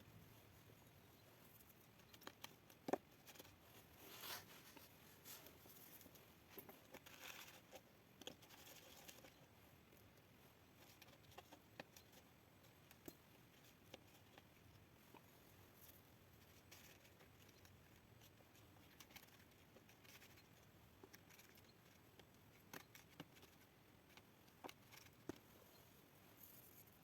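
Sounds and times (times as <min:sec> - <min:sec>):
faint clicks and taps: 0:01.5 - 0:03.6, 0:04.7 - 0:25.7.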